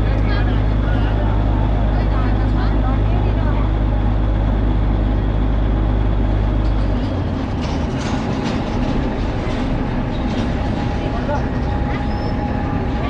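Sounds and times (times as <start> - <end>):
vehicle rumble and road noise: 0.0 - 13.0.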